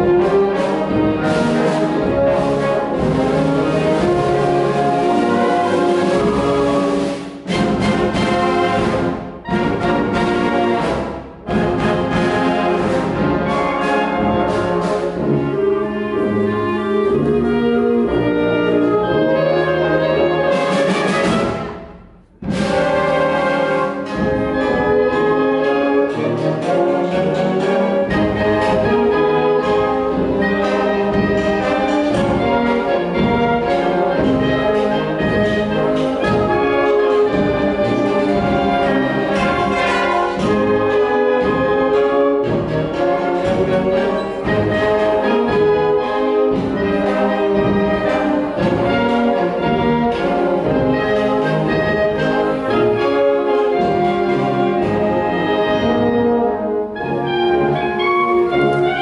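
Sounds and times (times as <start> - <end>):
brass melody: 0.0 - 59.0
wind band playing show tunes: 0.0 - 59.0.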